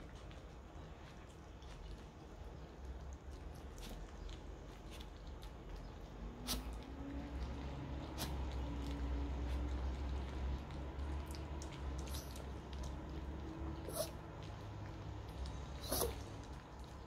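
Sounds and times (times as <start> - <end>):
dog chewing a treat: 0.0 - 17.0
low steady rumble: 0.0 - 17.0.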